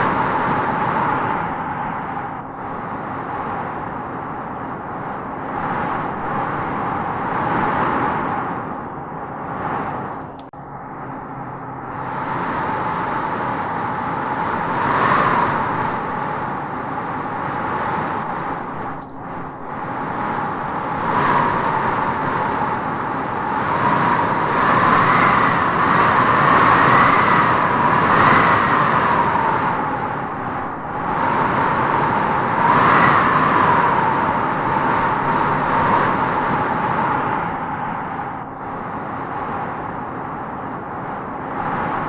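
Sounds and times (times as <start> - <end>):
wind howling in gusts: 0.0 - 42.0.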